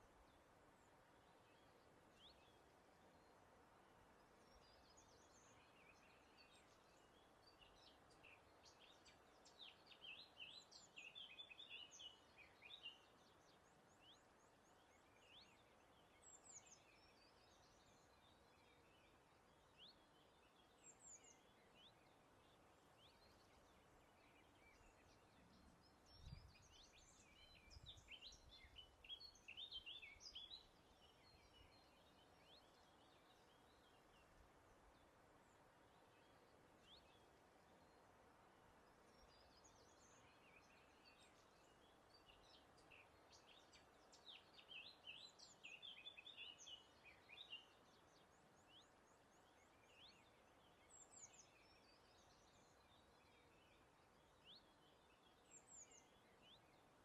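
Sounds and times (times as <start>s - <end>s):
faint birdsong: 0.0s - 57.0s
soft steady hiss: 0.0s - 57.0s.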